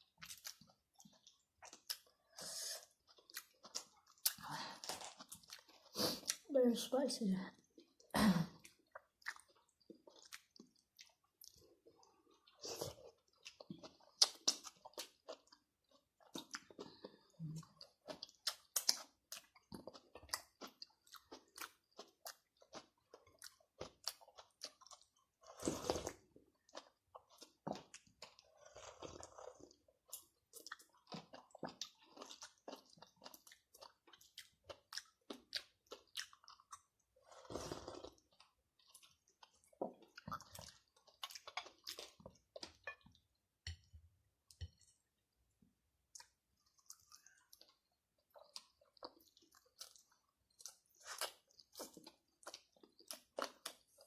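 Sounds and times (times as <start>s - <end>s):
chewing and crunching food: 0.0s - 6.5s, 7.4s - 54.0s.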